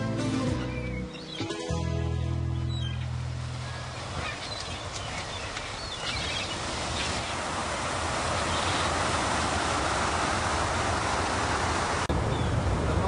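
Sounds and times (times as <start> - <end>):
churning water rushing: 0.0 - 13.0
low engine hum: 0.8 - 13.0.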